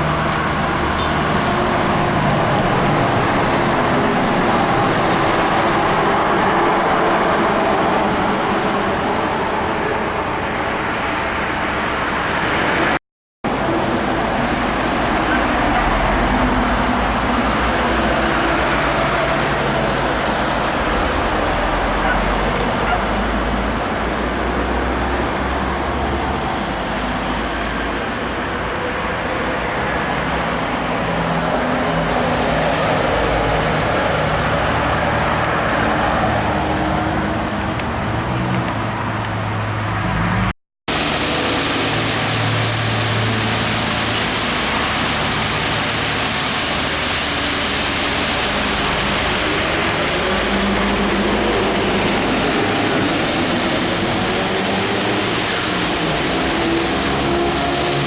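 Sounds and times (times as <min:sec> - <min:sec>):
trucks and cars passing: 0:00.0 - 0:58.0
tyres hissing on road: 0:00.0 - 0:58.0.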